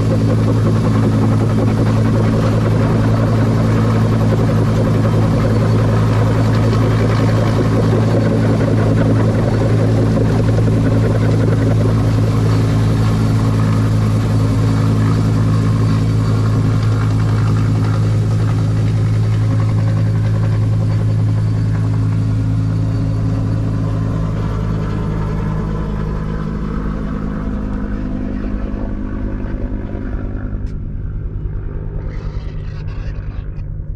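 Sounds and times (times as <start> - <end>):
helicopter turbine and rotor drone: 0.0 - 33.9.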